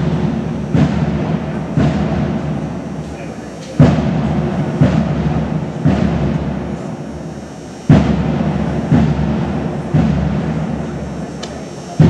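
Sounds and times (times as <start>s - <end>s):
bass drum beats: 0.0s - 3.2s, 3.8s - 11.4s.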